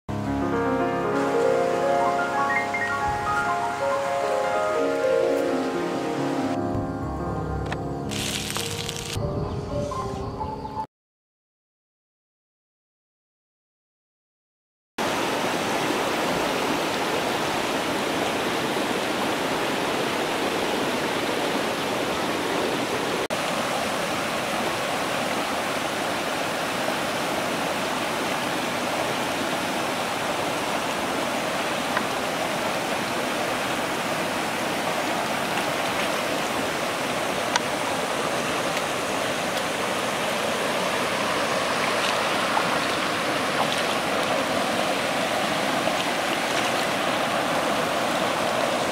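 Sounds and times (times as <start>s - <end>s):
stream water running: 0.1s - 6.6s, 8.1s - 9.2s, 15.0s - 48.9s.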